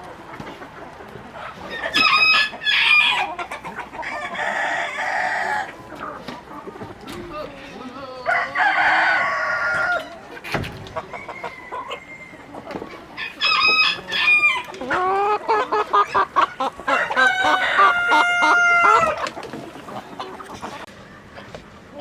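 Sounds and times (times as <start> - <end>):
roosters crowing: 0.0 - 7.1, 7.7 - 20.9
hens clucking: 0.0 - 22.0.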